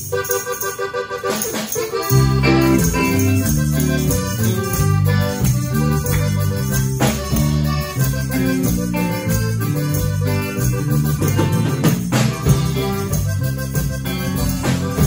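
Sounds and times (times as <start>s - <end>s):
accordion melody: 0.0s - 15.0s
drum kit: 0.0s - 15.0s
electric bass: 0.0s - 15.0s
electric guitar: 0.0s - 15.0s.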